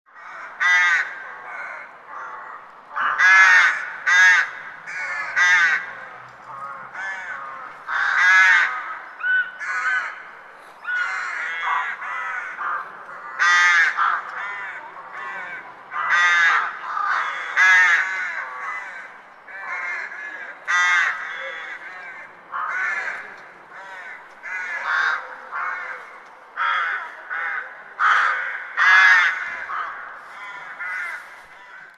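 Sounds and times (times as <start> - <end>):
birds calling: 0.2 - 31.9.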